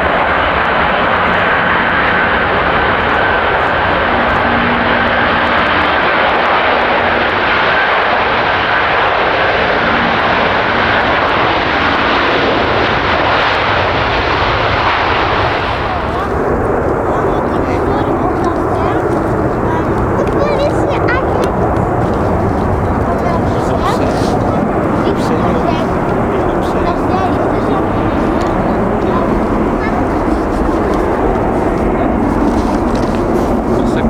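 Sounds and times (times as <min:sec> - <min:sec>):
jet airliner engines whining: 0:00.0 - 0:34.0.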